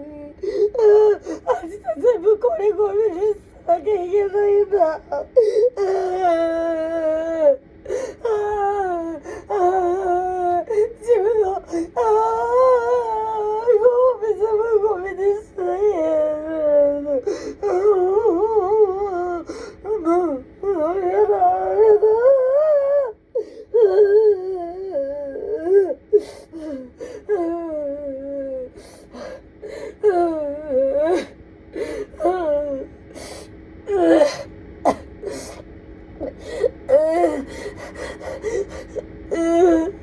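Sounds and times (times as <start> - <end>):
woman crying and wailing: 0.0 - 35.6, 36.2 - 40.0.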